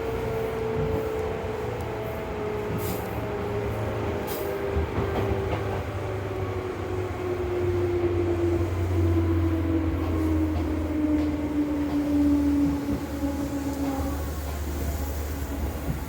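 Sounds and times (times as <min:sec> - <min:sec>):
electric train drive whine: 0:00.0 - 0:16.0.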